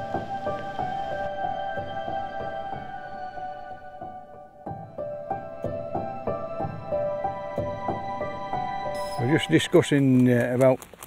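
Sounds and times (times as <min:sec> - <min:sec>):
soft instrumental music: 0:00.0 - 0:10.6.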